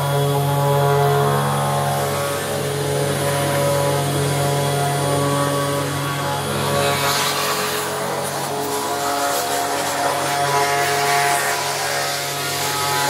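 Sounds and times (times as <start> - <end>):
router spindle drone: 0.0 - 13.0.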